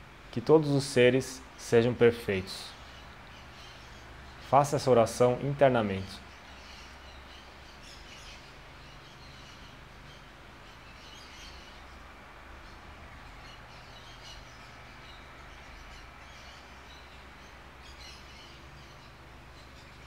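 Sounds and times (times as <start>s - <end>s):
low steady hum: 0.0s - 20.0s
faint bird chirps: 1.3s - 20.0s.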